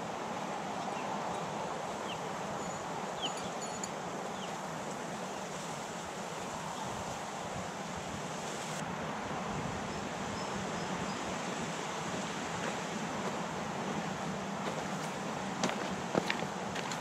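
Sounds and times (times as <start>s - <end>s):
river water rushing: 0.0s - 17.0s
wind: 0.0s - 17.0s.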